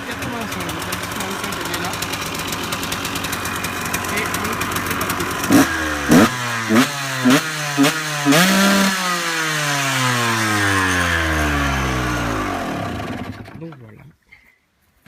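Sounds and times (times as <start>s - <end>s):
two-stroke motorcycle engine revving: 0.0s - 13.8s.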